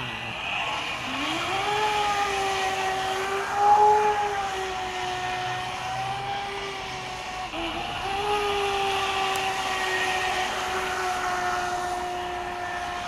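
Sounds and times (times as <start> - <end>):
model boat motor whining: 0.0 - 13.0.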